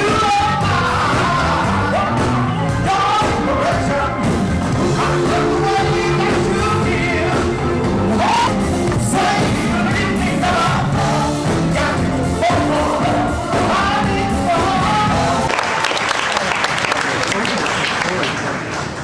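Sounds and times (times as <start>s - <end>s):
live band playing pop-rock: 0.0s - 15.7s.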